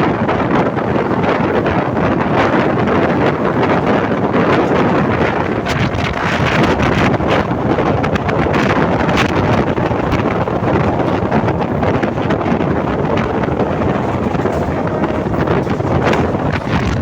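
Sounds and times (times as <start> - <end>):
train rumbling and clattering: 0.0 - 17.0
wind noise on microphone: 0.0 - 17.0.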